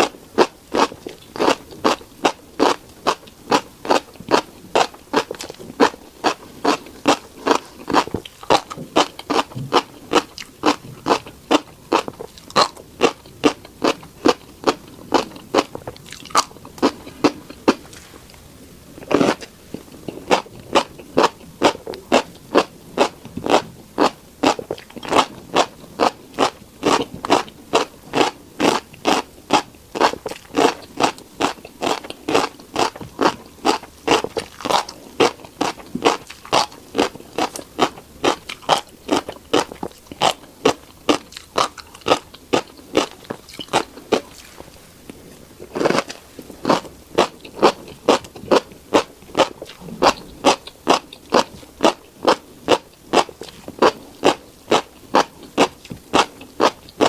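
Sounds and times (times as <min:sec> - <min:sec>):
crunchy chewing of seeds: 0:00.0 - 0:57.0.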